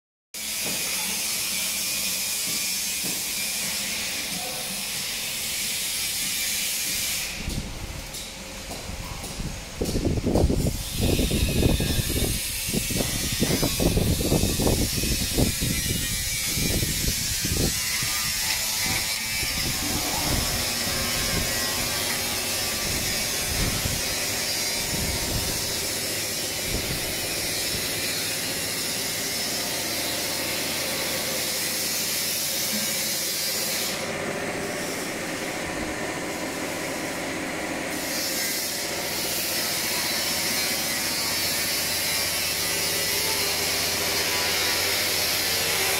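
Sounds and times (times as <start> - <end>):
steady mechanical hum with hiss: 0.4 - 45.9.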